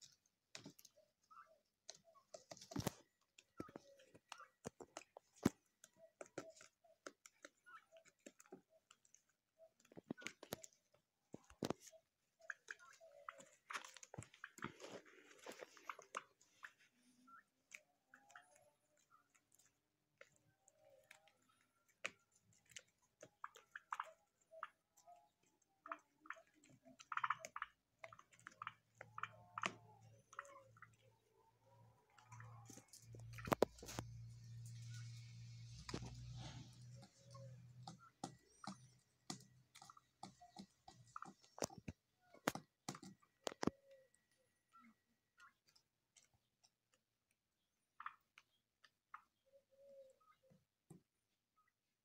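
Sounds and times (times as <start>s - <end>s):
turkey calls: 0.0s - 46.3s, 47.9s - 50.6s
beaks pecking and crunching shoots: 0.0s - 51.8s.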